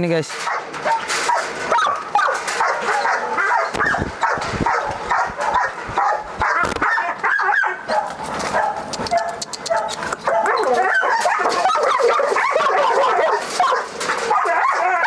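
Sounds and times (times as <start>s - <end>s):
dog barking and yelping: 0.4s - 15.0s.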